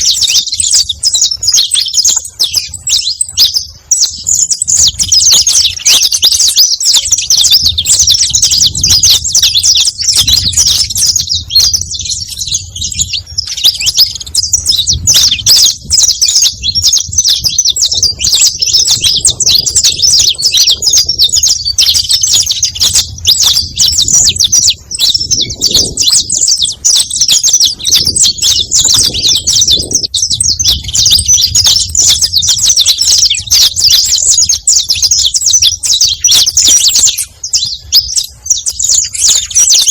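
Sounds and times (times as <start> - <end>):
finch chirps and trills: 0.0 - 39.9.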